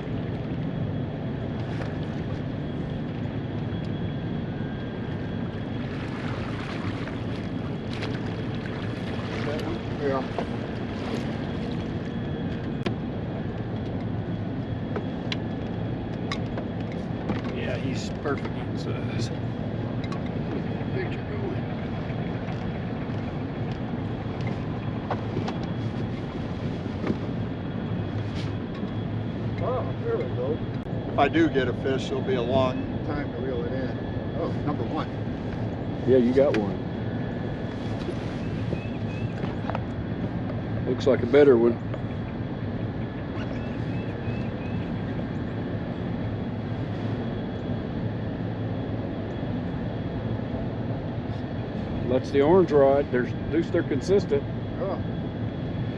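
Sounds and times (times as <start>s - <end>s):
faint high whine: 0.0s - 55.9s
low mechanical drone: 0.0s - 55.9s
wind rumble on microphone: 0.0s - 55.9s.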